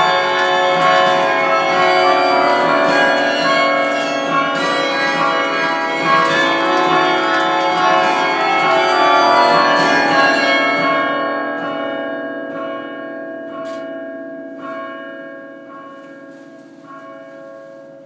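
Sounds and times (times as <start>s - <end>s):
carillon bells ringing chord: 0.0s - 18.0s.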